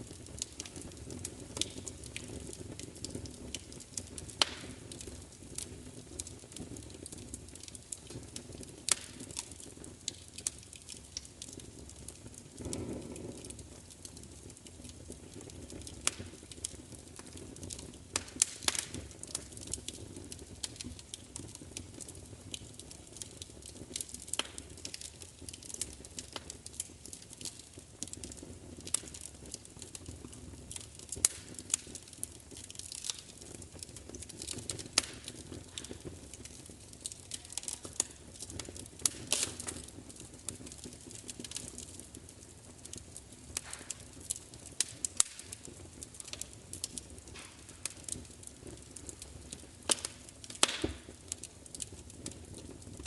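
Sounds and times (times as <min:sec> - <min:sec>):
fire crackling: 0:00.0 - 0:53.0.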